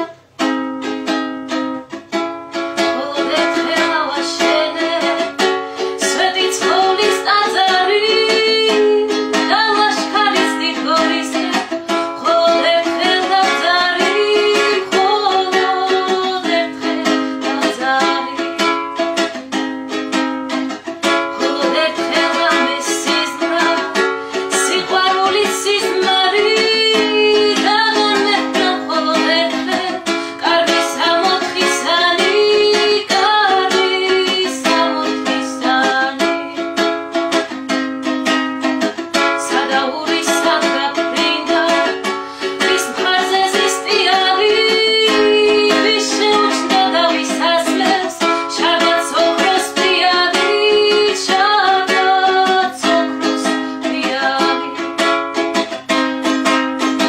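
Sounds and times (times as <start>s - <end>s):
plucked lute strumming: 0.0s - 57.0s
woman singing folk song: 0.0s - 57.0s.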